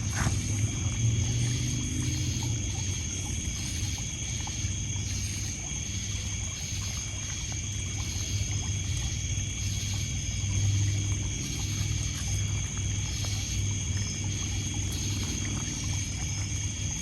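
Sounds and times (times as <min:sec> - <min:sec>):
crickets trilling: 0:00.0 - 0:17.0
water lapping on pebbles: 0:00.0 - 0:17.0.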